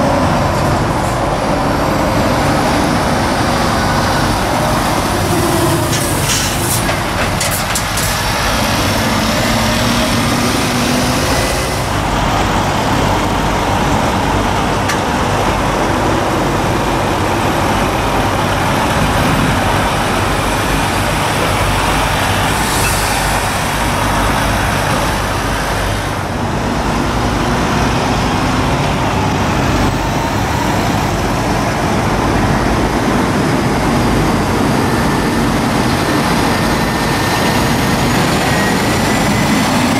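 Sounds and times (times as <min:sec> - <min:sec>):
diesel trucks running: 0:00.0 - 0:39.9.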